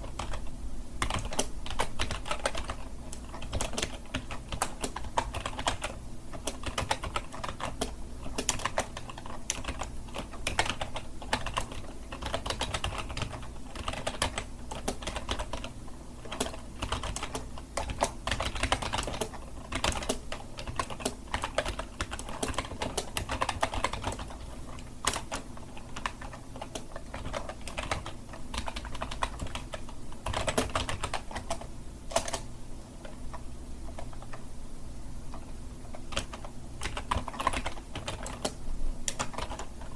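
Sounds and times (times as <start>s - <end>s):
typing on computer keyboard: 0.0s - 33.2s, 35.3s - 39.9s.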